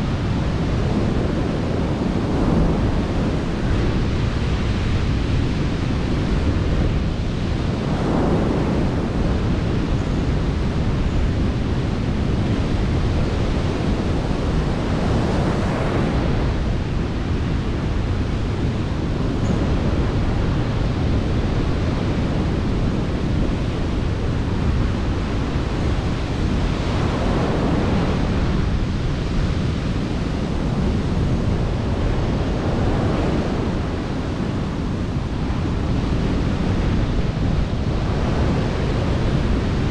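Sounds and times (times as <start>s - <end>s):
sea surf breaking on shore: 0.0s - 39.9s
wind rumbling on microphone: 0.0s - 39.9s.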